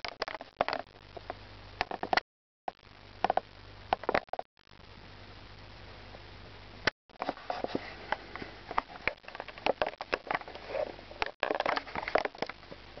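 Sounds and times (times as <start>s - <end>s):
faint steady hiss: 0.4s - 13.0s.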